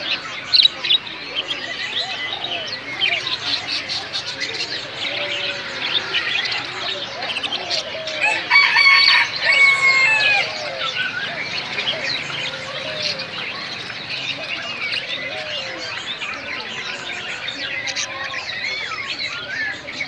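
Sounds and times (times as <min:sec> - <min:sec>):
caged birds chirping: 0:00.0 - 0:20.0.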